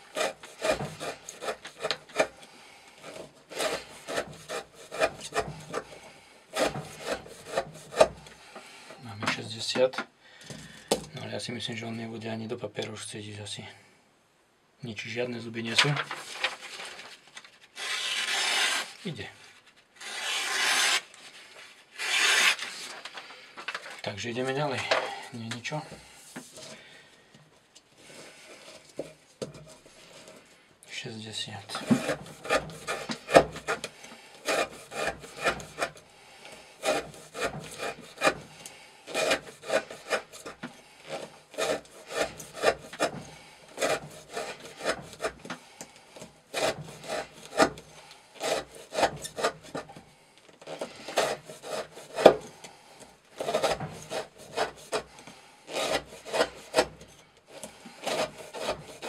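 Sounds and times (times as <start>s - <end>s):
knife shaving wood: 0.0s - 9.0s, 15.9s - 25.5s, 28.0s - 30.6s, 31.4s - 59.0s.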